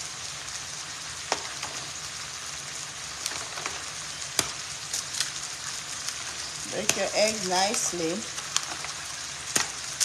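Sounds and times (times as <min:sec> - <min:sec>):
food sizzling in pan: 0:00.0 - 0:10.0.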